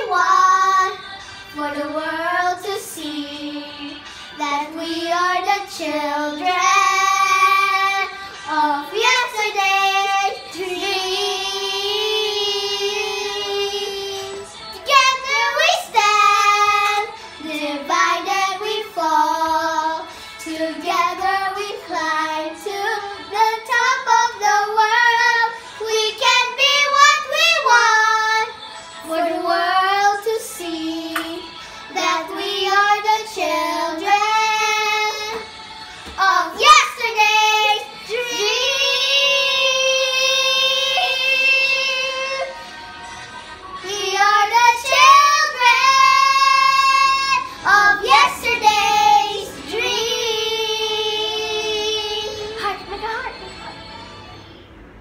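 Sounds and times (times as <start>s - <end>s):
girls singing: 0.0s - 54.8s.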